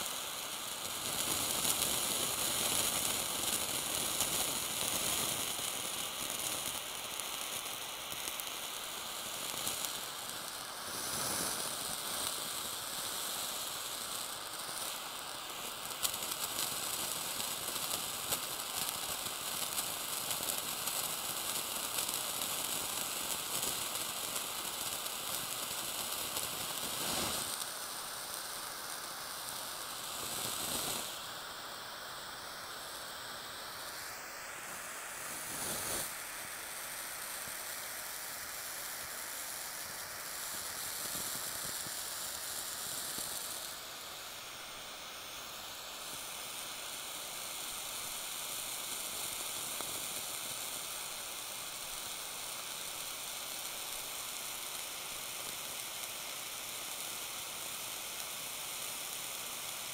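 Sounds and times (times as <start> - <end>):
blowtorch flame hissing: 0.0 - 59.9
cheese sizzling and crackling: 0.0 - 59.9.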